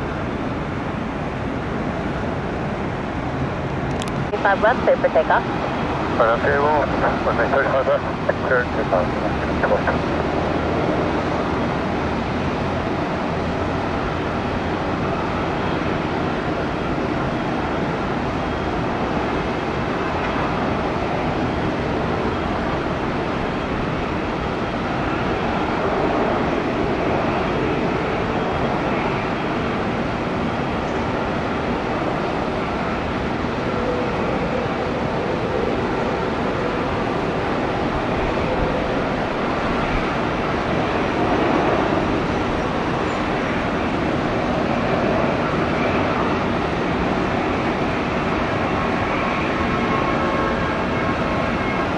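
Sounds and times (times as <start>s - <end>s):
jet engines rumbling: 0.0s - 51.9s.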